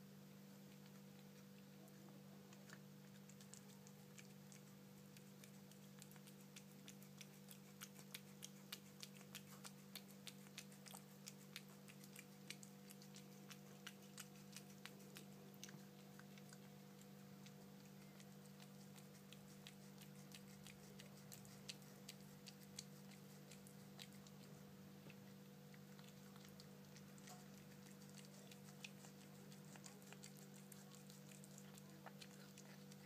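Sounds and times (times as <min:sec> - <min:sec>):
steady low hum: 0:00.0 - 0:33.0
cat licking and chewing: 0:00.3 - 0:33.0.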